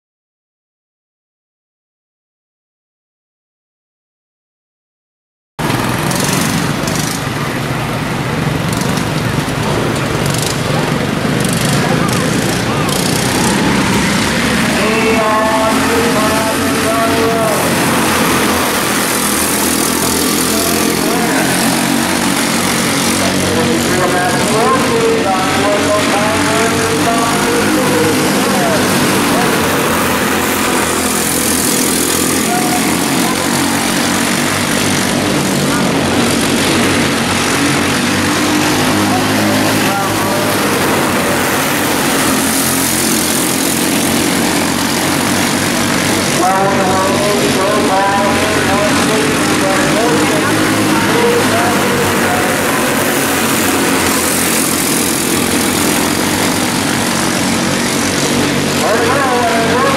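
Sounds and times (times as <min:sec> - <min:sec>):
small race car engines droning: 0:05.6 - 0:59.9.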